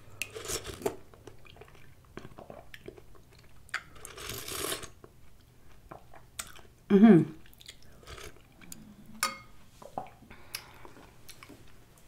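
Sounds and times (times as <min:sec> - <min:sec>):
person chewing soup: 0:00.1 - 0:09.2, 0:09.8 - 0:12.0.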